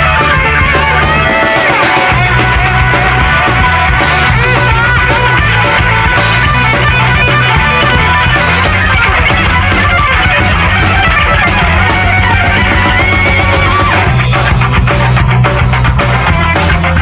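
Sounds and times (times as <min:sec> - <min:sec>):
electric guitar lead: 0:00.0 - 0:17.0
rock band music: 0:00.0 - 0:17.0.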